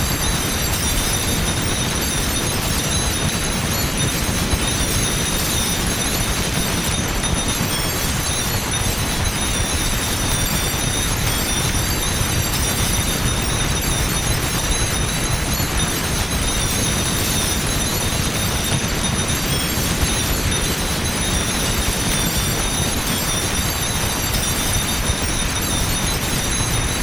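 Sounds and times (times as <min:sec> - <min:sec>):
high metallic ringing: 0:00.0 - 0:27.0.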